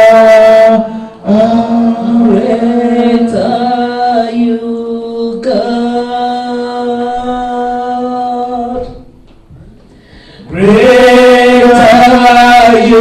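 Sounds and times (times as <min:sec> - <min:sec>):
person singing long held notes: 0:00.0 - 0:09.1, 0:10.4 - 0:13.0.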